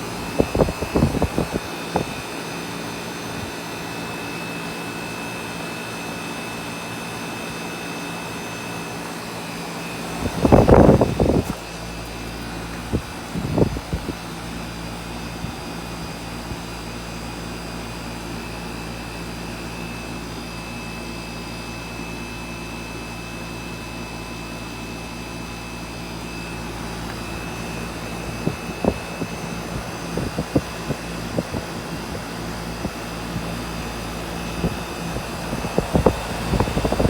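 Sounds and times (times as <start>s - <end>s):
air conditioner humming: 0.0s - 20.4s, 24.0s - 37.0s.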